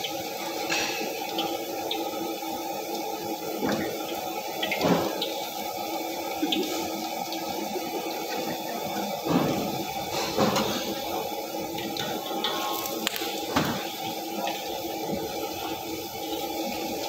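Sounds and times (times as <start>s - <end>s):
gas burner rushing: 0.0s - 17.0s.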